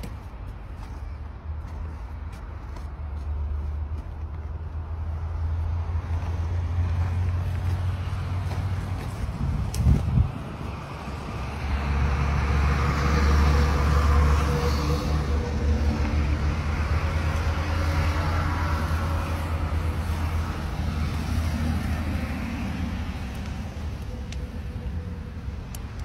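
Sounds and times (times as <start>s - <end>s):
road noise: 0.0s - 26.0s
vehicle engine rumbling: 0.0s - 26.0s.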